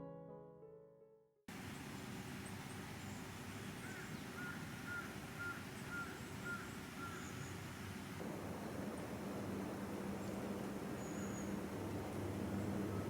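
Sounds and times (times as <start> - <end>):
steady background hiss: 1.5 - 13.0.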